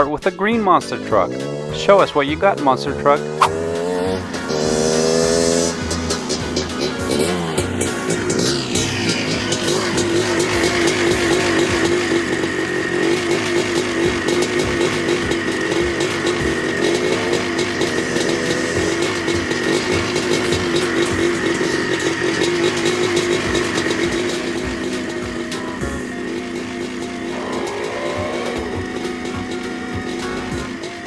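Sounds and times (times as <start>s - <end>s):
monster truck engine revving: 1.1s - 31.0s.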